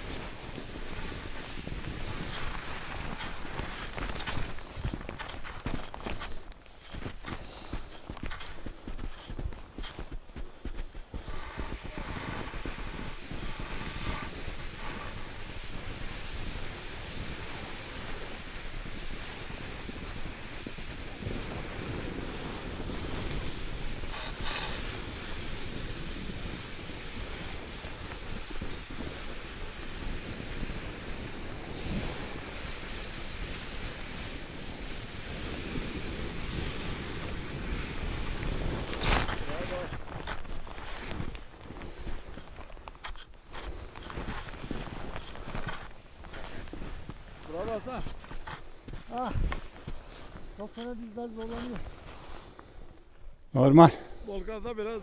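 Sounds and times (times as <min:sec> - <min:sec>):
wind buffeting microphone: 0:00.0 - 0:52.8
skis sliding over snow: 0:00.0 - 0:55.0.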